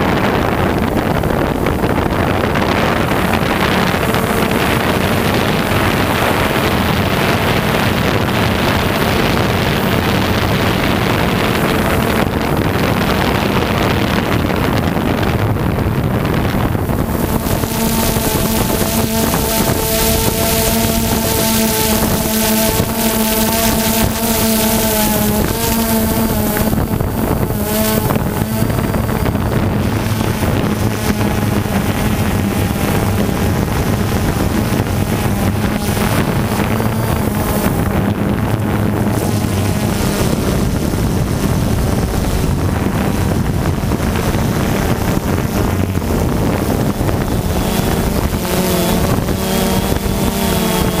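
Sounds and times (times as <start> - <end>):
drone motors buzzing: 0.0 - 51.0
wind on microphone: 0.0 - 51.0.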